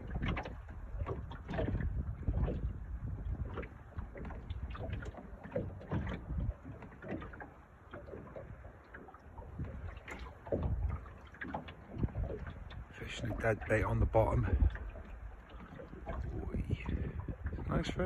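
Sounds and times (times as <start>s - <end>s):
wind buffeting microphone: 0.0s - 7.4s, 9.3s - 18.0s
small waves lapping: 0.0s - 18.0s.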